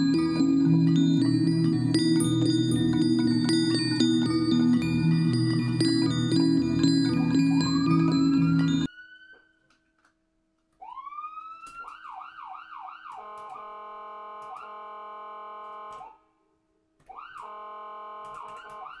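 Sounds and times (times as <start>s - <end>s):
electronic siren wailing: 0.0s - 9.7s, 10.8s - 16.2s, 17.1s - 19.0s.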